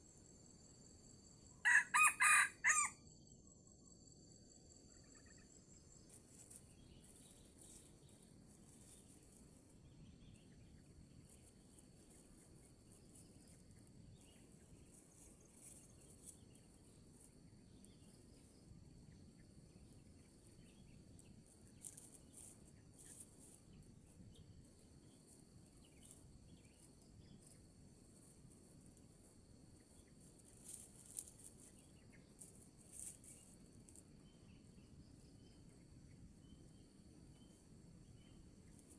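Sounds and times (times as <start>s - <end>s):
insects chirping and buzzing: 0.0s - 38.9s.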